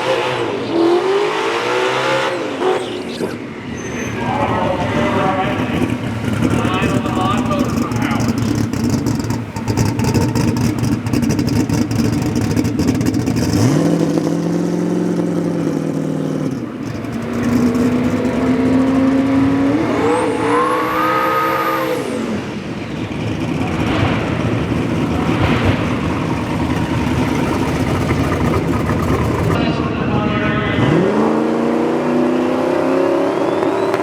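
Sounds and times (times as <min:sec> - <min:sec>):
car engine revving: 0:00.0 - 0:29.9, 0:30.5 - 0:34.0.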